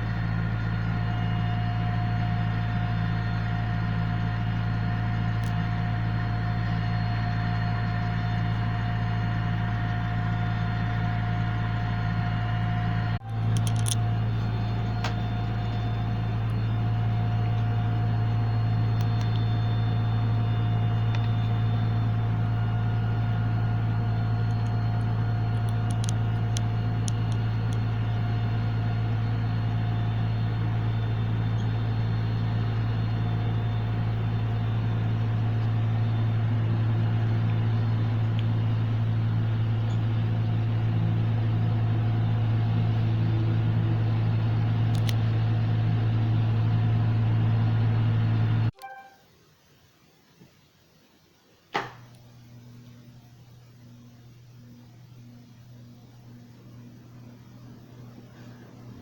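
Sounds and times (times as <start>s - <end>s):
ceiling fan motor humming: 0.0s - 49.2s, 52.0s - 59.0s.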